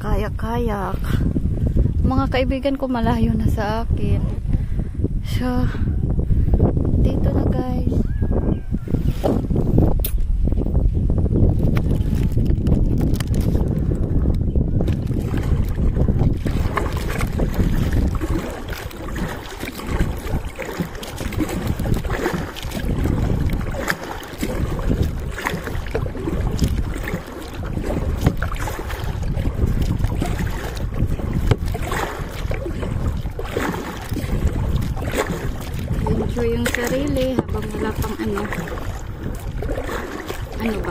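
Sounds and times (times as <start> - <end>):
water splashing around kayak: 0.0 - 40.9
wind buffeting microphone: 0.0 - 40.9.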